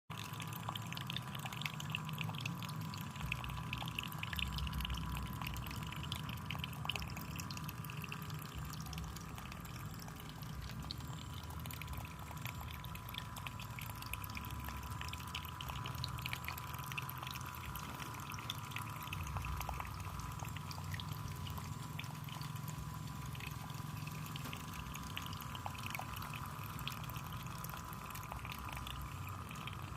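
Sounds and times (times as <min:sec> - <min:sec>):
thin steady tone: 0:00.1 - 0:29.9
water splashing and trickling: 0:00.1 - 0:29.9.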